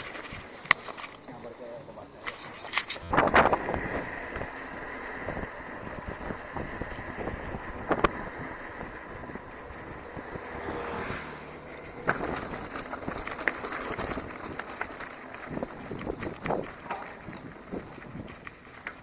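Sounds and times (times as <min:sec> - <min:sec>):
bike rattling on dirt trail: 0:00.0 - 0:19.0.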